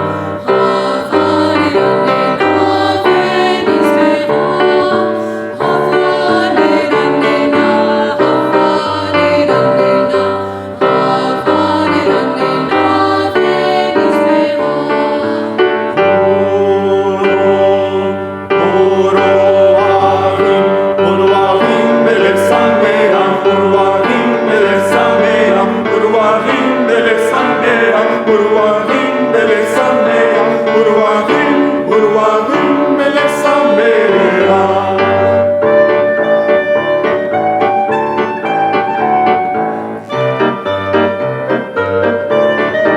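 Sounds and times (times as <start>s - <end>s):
piano accompaniment: 0.0s - 42.9s
vocal ensemble singing in harmony: 0.0s - 42.9s.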